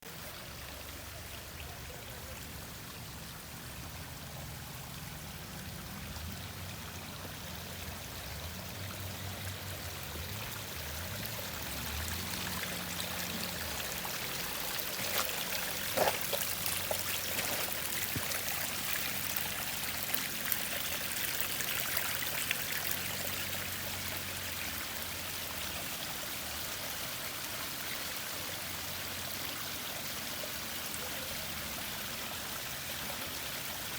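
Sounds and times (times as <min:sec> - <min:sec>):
waterfall running and splashing: 0:00.1 - 0:33.9.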